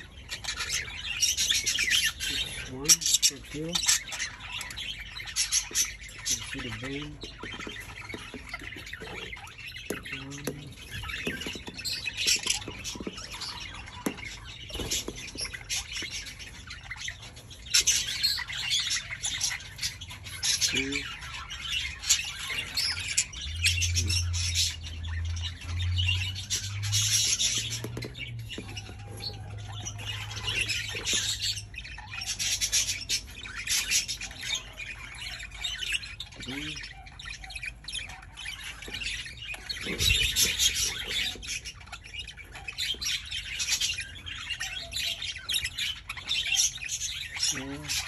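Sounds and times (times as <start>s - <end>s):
budgerigars chirping and squawking: 0.0s - 48.0s.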